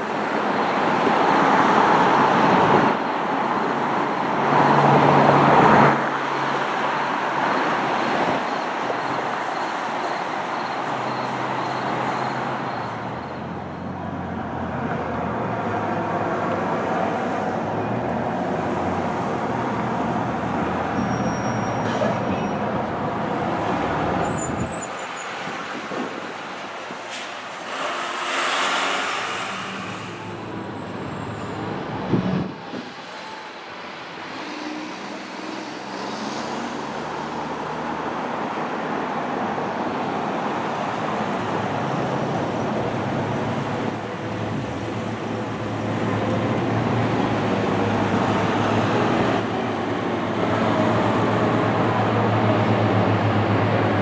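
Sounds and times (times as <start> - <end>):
traffic engine and tyre noise: 0.0 - 54.0.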